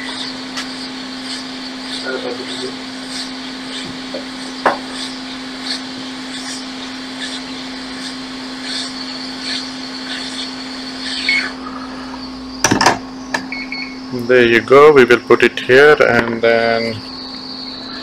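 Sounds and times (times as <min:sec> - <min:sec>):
hot-air station blowing: 0:00.0 - 0:18.0.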